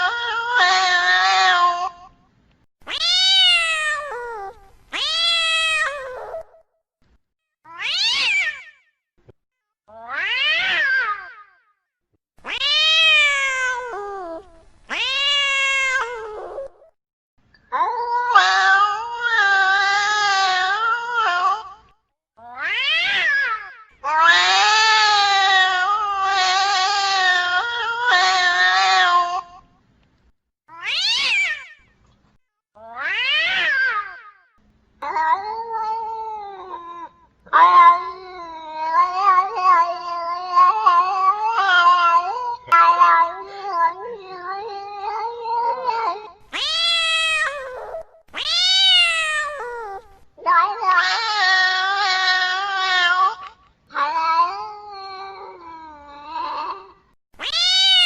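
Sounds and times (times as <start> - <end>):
cats yowling and growling: 0.0 - 2.2, 2.9 - 6.7, 7.7 - 8.7, 9.9 - 11.5, 12.4 - 17.0, 17.7 - 29.7, 30.7 - 32.0, 32.8 - 34.4, 35.0 - 58.0.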